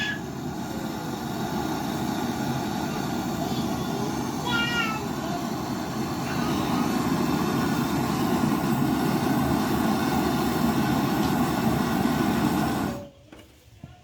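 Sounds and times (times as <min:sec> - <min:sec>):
loud rushing mechanical noise: 0:00.0 - 0:13.0.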